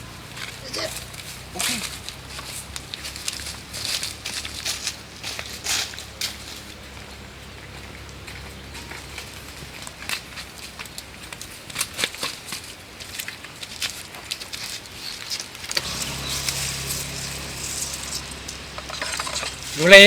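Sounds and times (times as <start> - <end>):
leaves and twigs crackling: 0.2 - 20.0.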